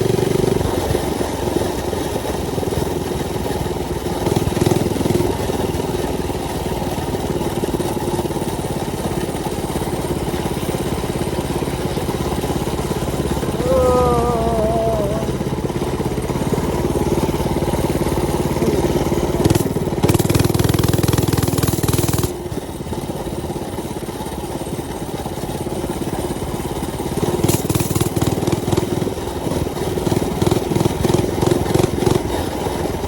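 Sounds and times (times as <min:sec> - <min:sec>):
mini bike engine running: 0:00.0 - 0:33.0.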